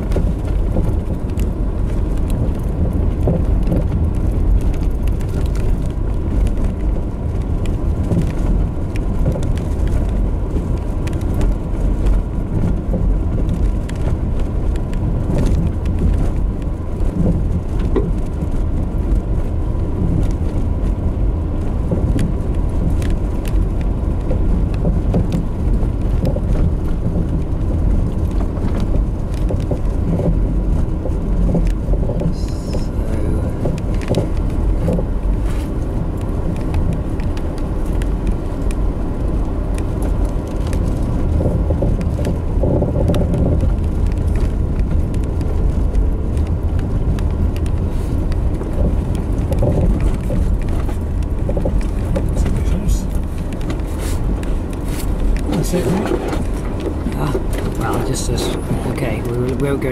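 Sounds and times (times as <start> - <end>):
engine and tyre rumble: 0.0 - 59.9
small knocks and crackles: 0.0 - 59.9.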